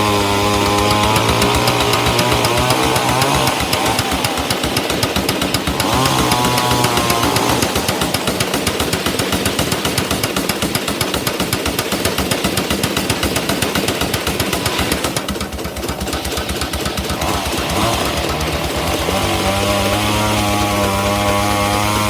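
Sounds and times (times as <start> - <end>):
engine running with sharp exhaust beat: 0.0 - 22.0.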